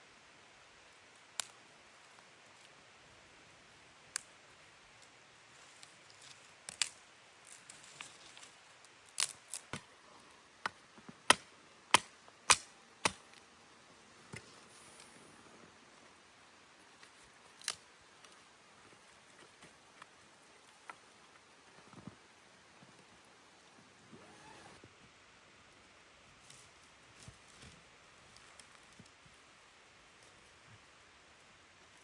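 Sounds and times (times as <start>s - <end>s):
faint steady background noise: 0.0s - 32.0s.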